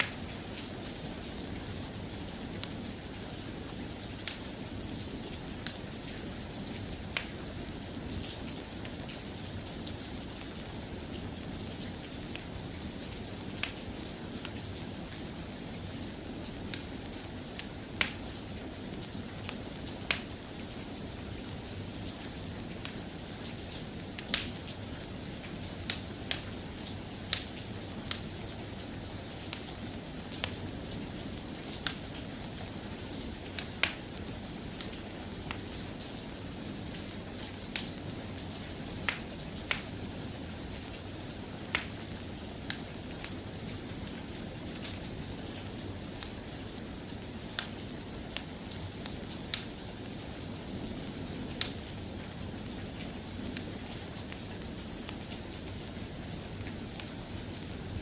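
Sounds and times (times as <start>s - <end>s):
soft rain: 0.0s - 58.0s.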